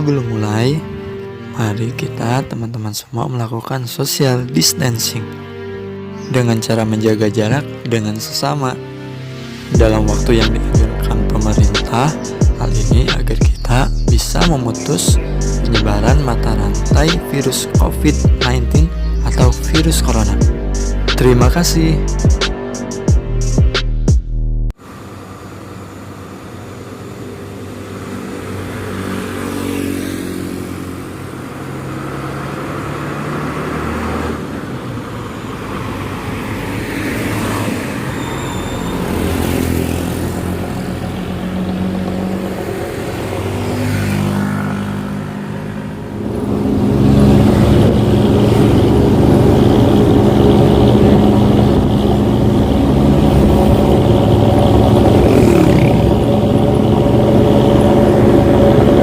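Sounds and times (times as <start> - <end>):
bus engine growling exhaust: 8.8 - 23.8, 24.8 - 59.0.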